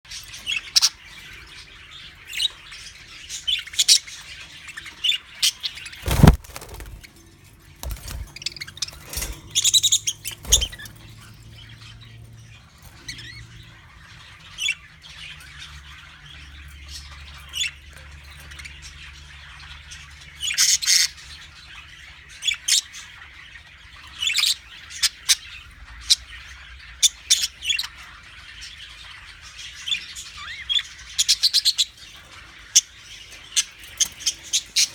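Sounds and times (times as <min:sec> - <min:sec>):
budgies chirping and squawking: 0:00.1 - 0:34.9.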